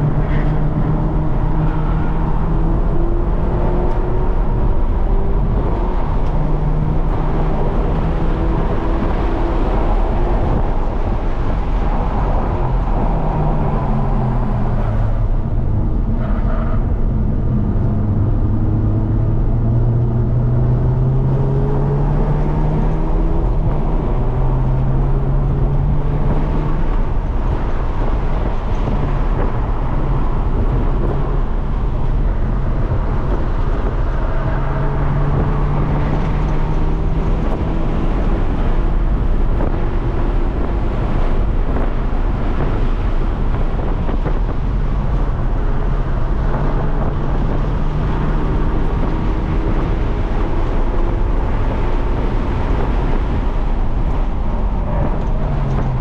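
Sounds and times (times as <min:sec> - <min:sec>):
car engine revving: 0:00.0 - 0:56.0
road noise: 0:00.0 - 0:56.0.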